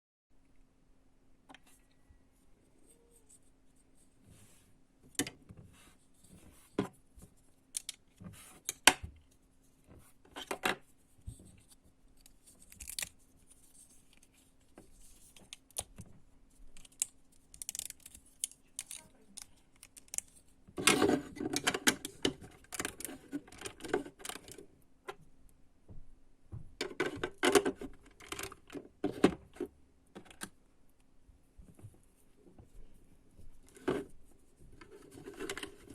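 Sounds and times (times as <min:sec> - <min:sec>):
faint steady hum: 0:00.3 - 0:35.9.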